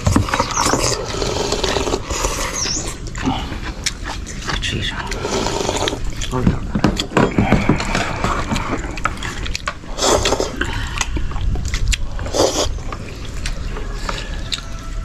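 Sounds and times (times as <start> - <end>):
people chewing: 0.0 - 15.0.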